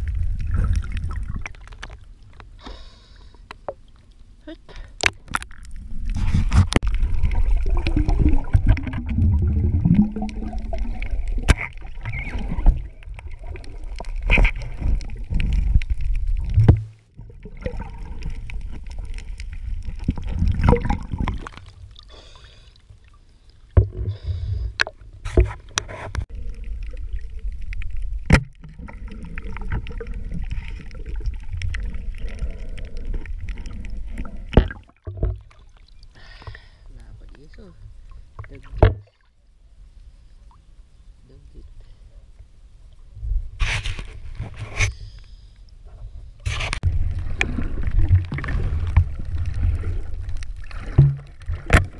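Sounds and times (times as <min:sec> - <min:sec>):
underwater churning and gurgling: 0:00.0 - 0:40.8, 0:41.7 - 0:51.9.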